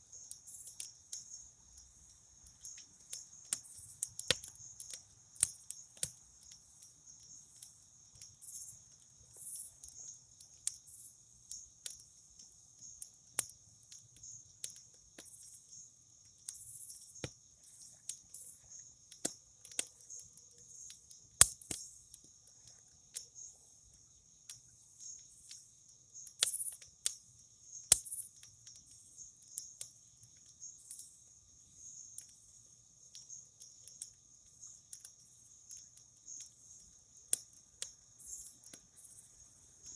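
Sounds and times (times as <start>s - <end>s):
campfire crackling and popping: 0.0s - 31.0s, 31.6s - 39.1s
crickets chirping: 0.0s - 39.9s.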